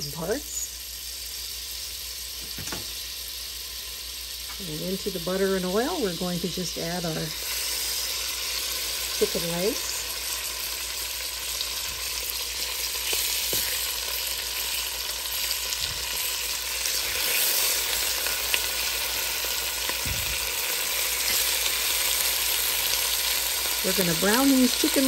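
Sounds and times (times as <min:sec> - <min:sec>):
chicken sizzling in oil: 0:00.0 - 0:25.0.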